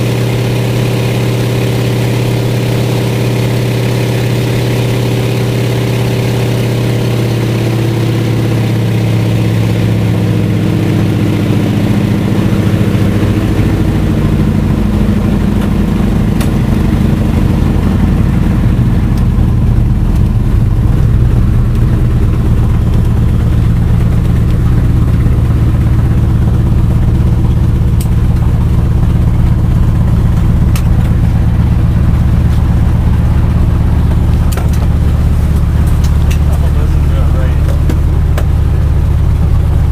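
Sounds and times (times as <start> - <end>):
plane engine and propeller drone: 0.0 - 39.9.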